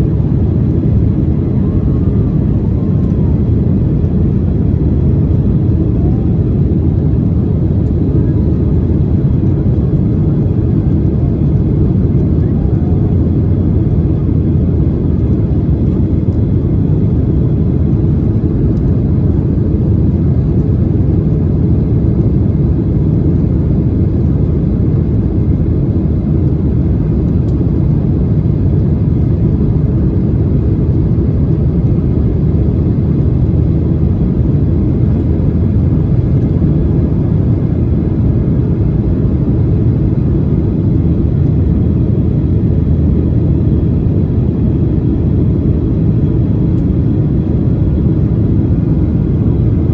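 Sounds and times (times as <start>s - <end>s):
airliner engine rumble in cabin: 0.0s - 49.9s.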